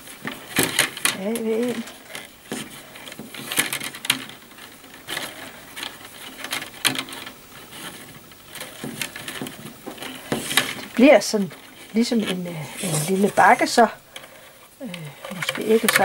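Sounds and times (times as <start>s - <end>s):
cane strands scraping and clicking: 0.0s - 16.0s.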